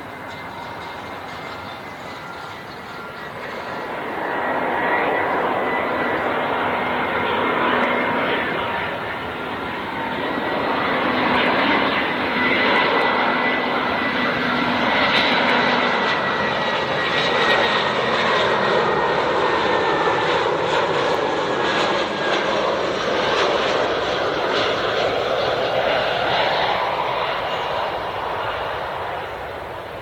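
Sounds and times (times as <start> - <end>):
jet airliner engines passing: 0.0 - 30.0.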